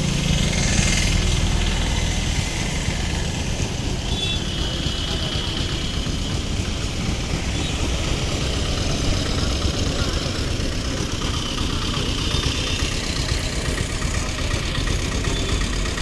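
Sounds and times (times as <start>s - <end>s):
street traffic: 0.0s - 16.0s
vehicle engine idling: 0.0s - 16.0s.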